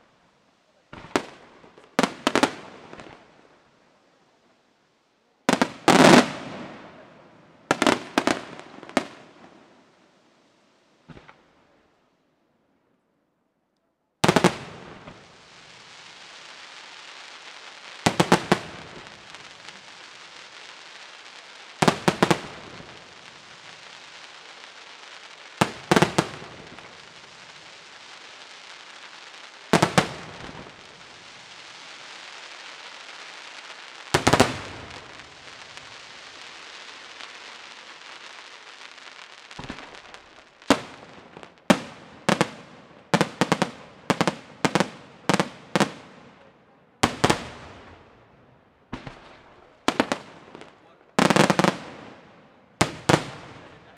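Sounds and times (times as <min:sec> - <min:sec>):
fireworks hissing and crackling: 0:00.0 - 0:12.2, 0:14.2 - 0:53.9.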